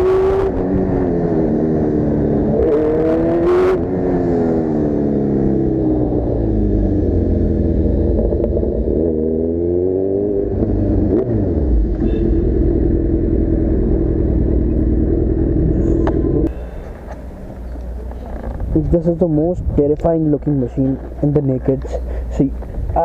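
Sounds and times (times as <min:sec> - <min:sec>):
motorcycle engine accelerating: 0:00.0 - 0:18.9.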